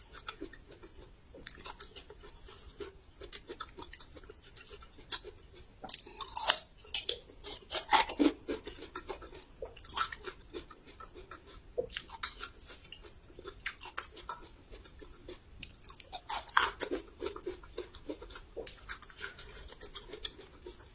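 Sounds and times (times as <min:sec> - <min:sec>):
chewing crisp ginger crunches: 0:00.0 - 0:20.9.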